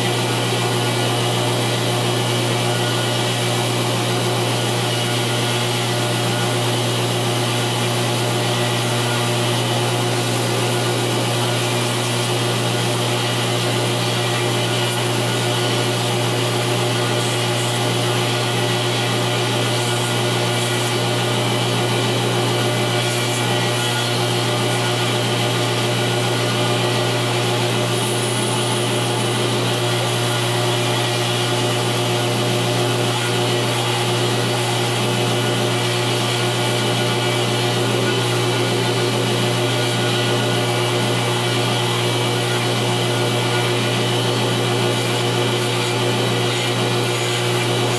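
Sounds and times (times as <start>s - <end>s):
belt grinder grinding knife blade: 0.0s - 47.9s.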